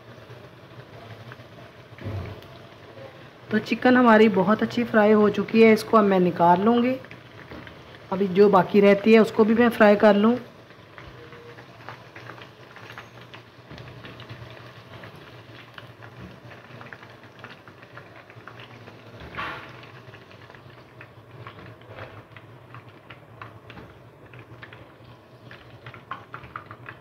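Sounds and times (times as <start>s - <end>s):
deep-frying sizzle and pops: 0.0s - 27.0s.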